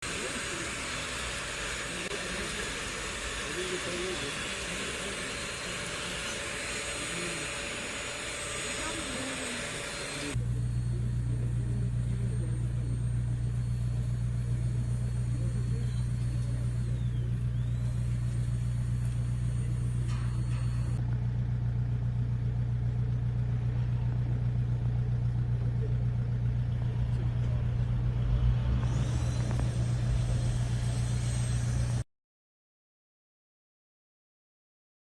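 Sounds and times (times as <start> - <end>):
motor droning: 0.0 - 32.0.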